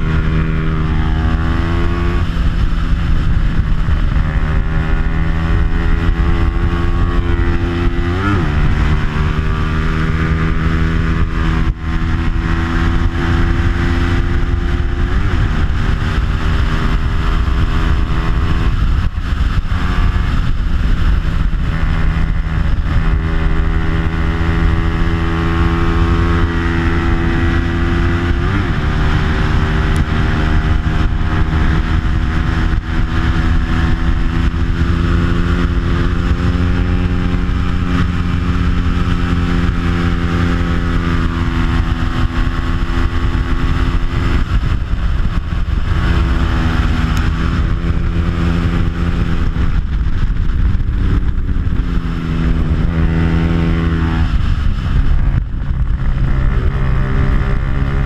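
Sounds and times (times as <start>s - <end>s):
motorcycle engine revving high: 0.0s - 58.0s
wind rush: 0.0s - 58.0s.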